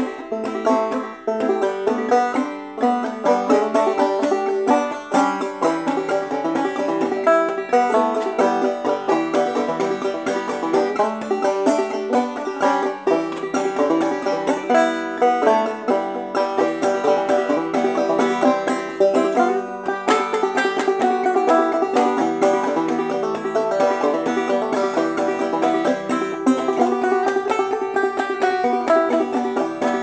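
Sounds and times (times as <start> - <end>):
banjo plucked notes: 0.0 - 30.0.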